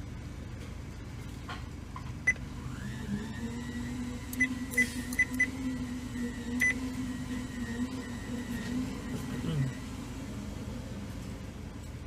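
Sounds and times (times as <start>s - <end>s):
idling car hum: 0.0s - 12.0s
machine whine: 2.2s - 12.0s.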